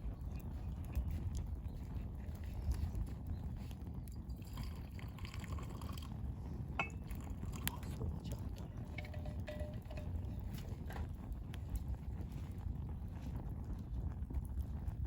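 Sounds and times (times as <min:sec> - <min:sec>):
campfire crackling: 0:00.0 - 0:15.0
fire popping: 0:00.0 - 0:15.0.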